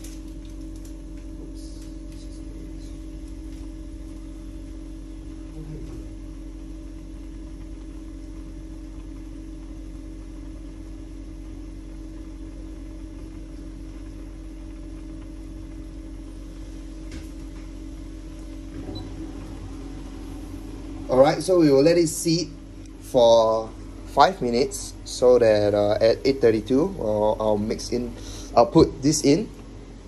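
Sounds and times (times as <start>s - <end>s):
low electrical appliance hum: 0.0s - 30.0s.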